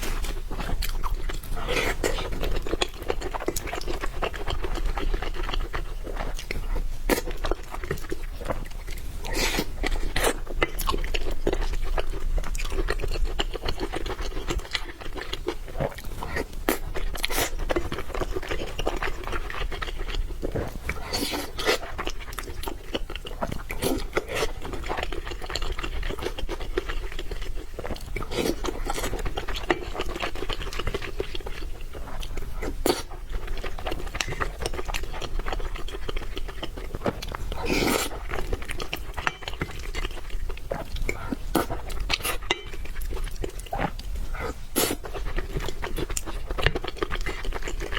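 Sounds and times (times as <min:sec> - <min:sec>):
crunchy food being chewed: 0:00.0 - 0:47.9.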